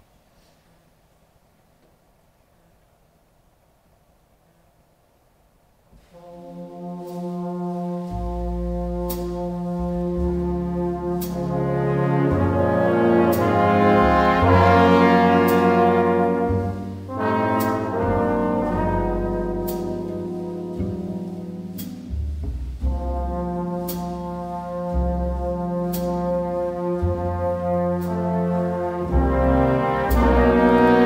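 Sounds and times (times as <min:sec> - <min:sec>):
jazz big band ballad: 0:06.0 - 0:31.0.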